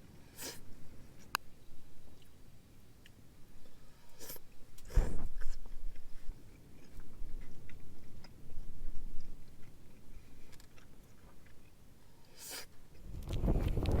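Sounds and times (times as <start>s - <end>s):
person chewing food: 2.0s - 13.8s.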